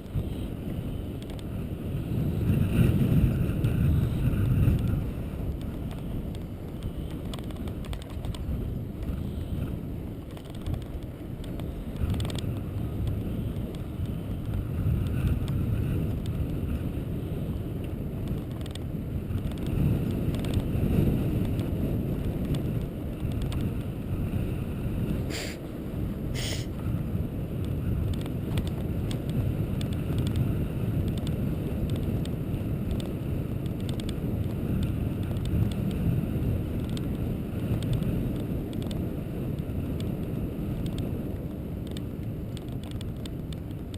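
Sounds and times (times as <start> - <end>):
road and wind rumble: 0.0 - 43.9
wind buffeting microphone: 0.0 - 43.9.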